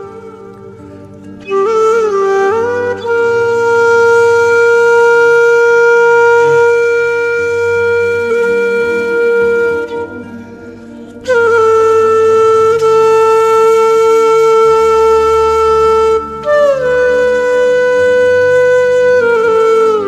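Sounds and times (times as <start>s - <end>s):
low sustained accompaniment: 0.0s - 20.0s
wind instrument melody: 0.0s - 20.0s.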